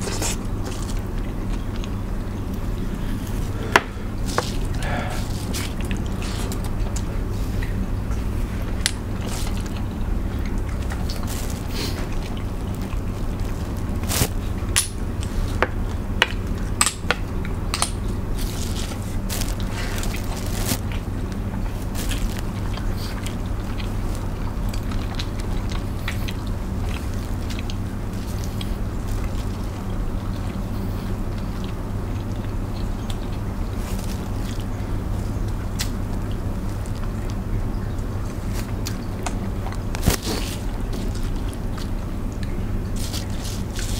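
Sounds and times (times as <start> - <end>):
chewing: 0.0 - 43.9
steady low hum: 0.0 - 43.9.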